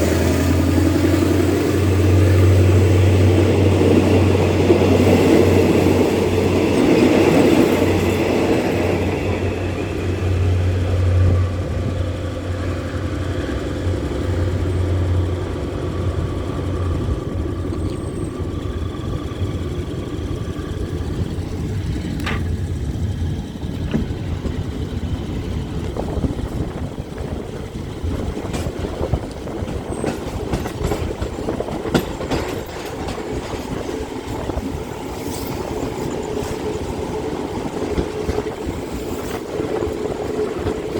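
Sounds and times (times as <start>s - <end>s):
diesel locomotive engine drone: 0.0s - 40.9s
train coaches rumbling: 0.0s - 40.9s.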